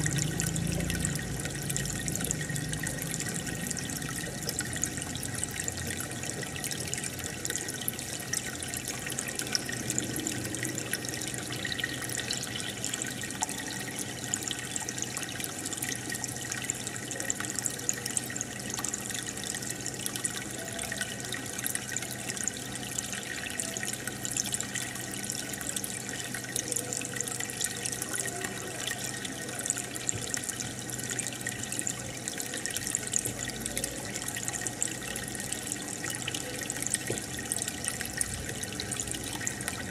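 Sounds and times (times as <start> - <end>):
aquarium water bubbling: 0.0 - 39.9
low steady hum: 0.0 - 39.9.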